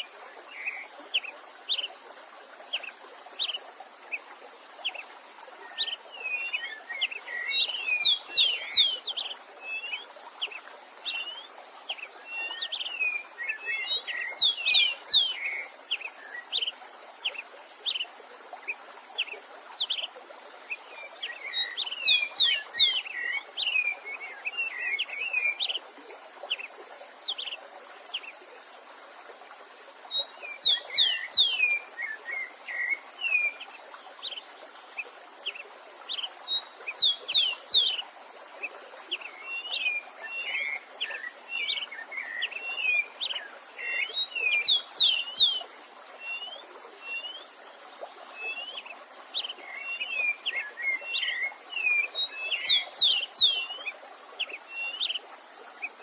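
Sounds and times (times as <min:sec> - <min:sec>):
running stream water: 0:00.0 - 0:56.0.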